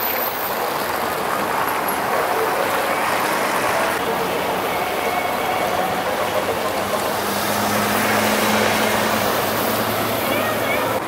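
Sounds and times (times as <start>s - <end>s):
minibus driving past: 0.0s - 11.0s
street traffic: 0.0s - 11.0s.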